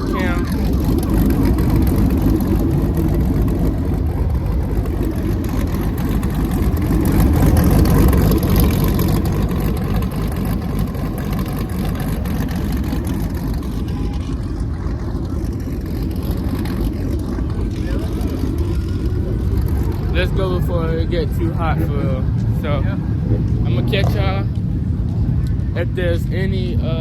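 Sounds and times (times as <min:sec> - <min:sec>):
car engines rumbling: 0:00.0 - 0:27.0.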